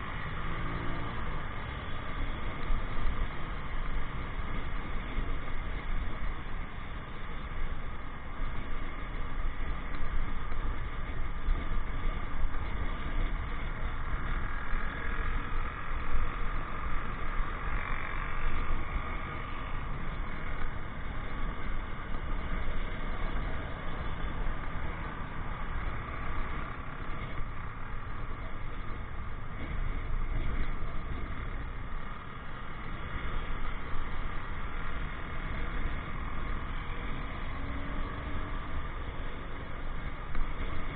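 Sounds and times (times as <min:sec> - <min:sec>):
motorcycle engine: 0:00.0 - 0:40.9
passing traffic: 0:00.0 - 0:40.9.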